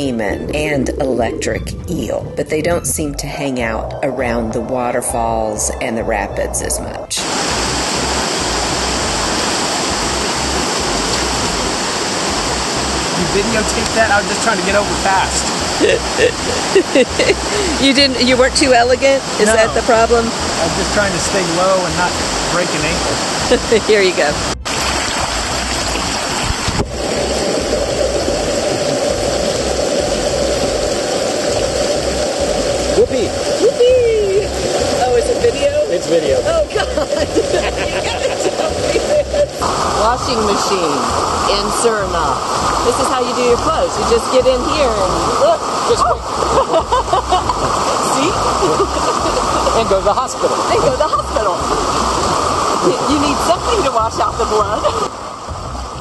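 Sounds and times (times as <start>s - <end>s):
waterfall and river rapids: 7.2s - 56.0s.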